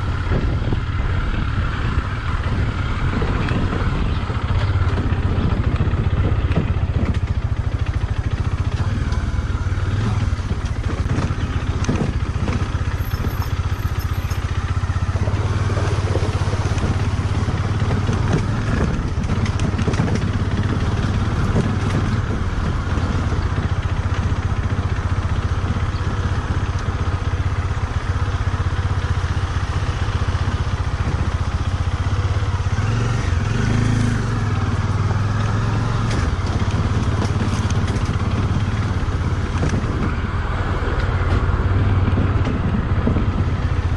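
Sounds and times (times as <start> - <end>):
bike rattling over bumps: 0.0 - 43.9
motorcycle engine running: 0.0 - 43.9.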